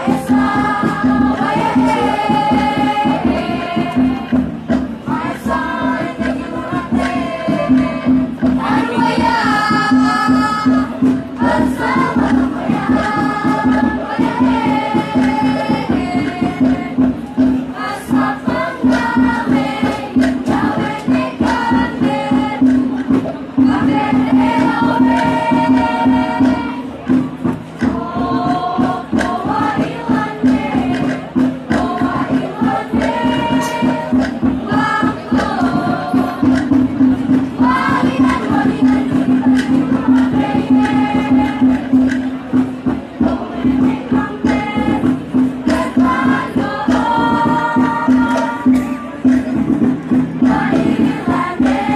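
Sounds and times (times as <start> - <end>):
group singing in chorus: 0.0 - 51.9
light percussion strokes: 0.0 - 51.9.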